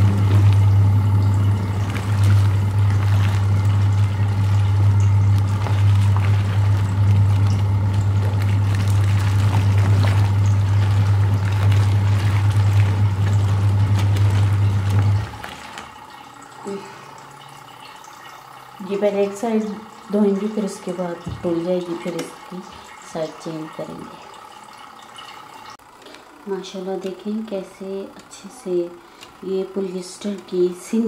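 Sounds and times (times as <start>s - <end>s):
water sloshing: 0.0s - 25.8s
washing machine motor hum: 0.0s - 31.0s.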